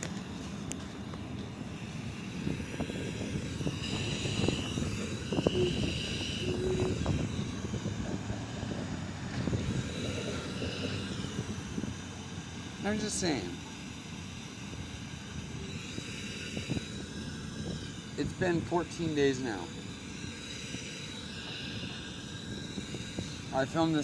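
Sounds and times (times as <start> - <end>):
city traffic rumble: 0.0 - 24.0
drinking fountain hiss: 0.0 - 24.0.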